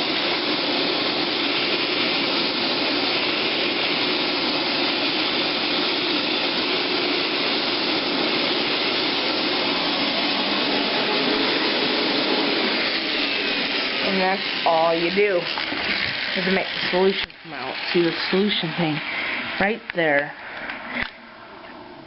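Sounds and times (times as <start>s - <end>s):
carpet cleaner suction motor: 0.0s - 20.0s.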